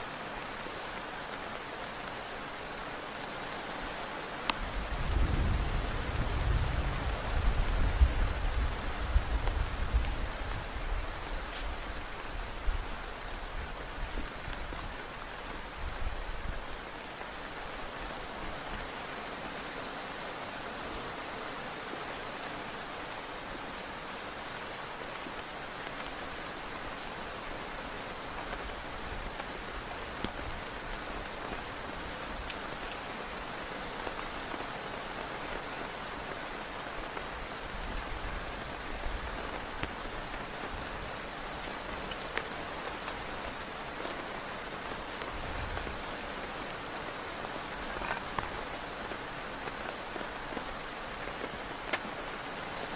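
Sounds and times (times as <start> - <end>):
heavy rain hissing: 0.0 - 52.9.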